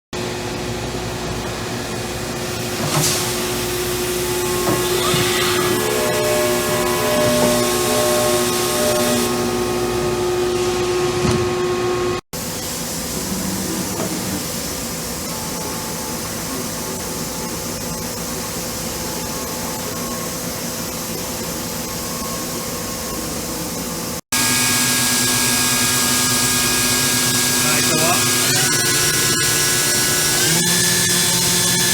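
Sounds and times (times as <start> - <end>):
machining center running: 0.2 - 31.9.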